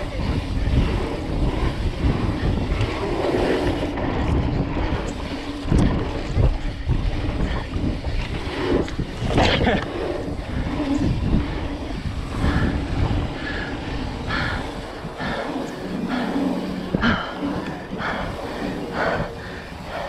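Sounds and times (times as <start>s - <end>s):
bike rumbling over trail: 0.0s - 20.0s
wind buffeting microphone: 0.0s - 20.0s.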